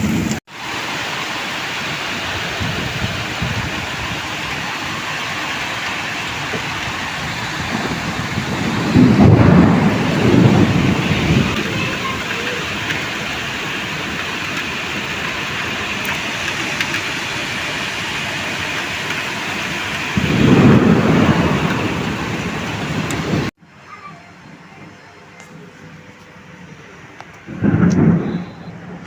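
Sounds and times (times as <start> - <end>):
heavy rain hissing: 0.0 - 23.6, 25.6 - 29.0
low rumbles: 2.3 - 23.5, 26.5 - 29.0.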